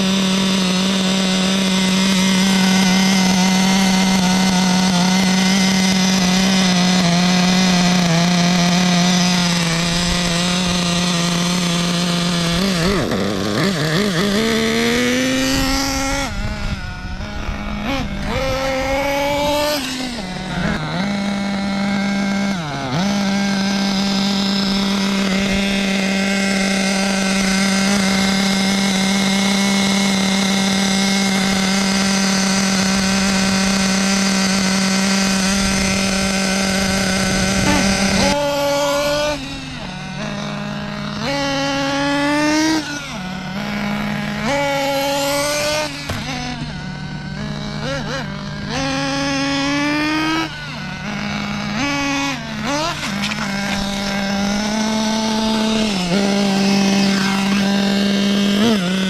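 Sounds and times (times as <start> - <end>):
nitro engine buzzing: 0.0 - 59.0.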